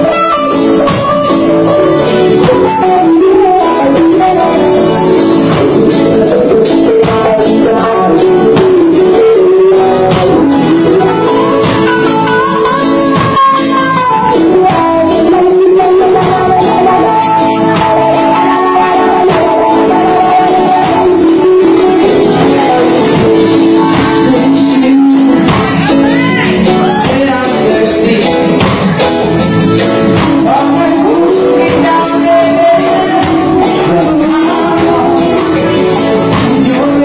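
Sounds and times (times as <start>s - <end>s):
electric guitar bending notes: 0.0s - 37.0s
reggae band playing: 0.0s - 37.0s.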